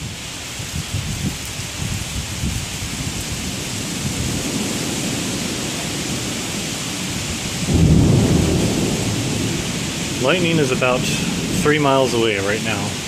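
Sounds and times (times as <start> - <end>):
heavy rain hissing: 0.0 - 13.0
thunder rumble: 2.4 - 13.0.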